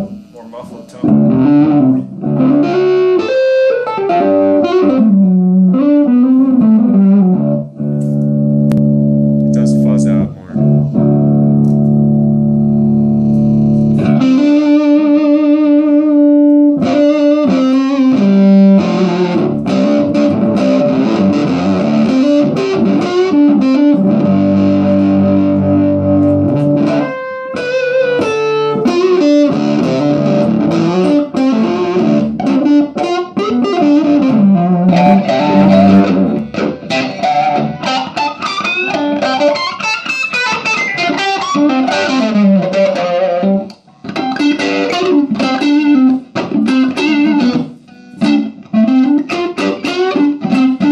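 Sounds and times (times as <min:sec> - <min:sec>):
overdriven electric guitar: 0:00.0 - 0:50.9.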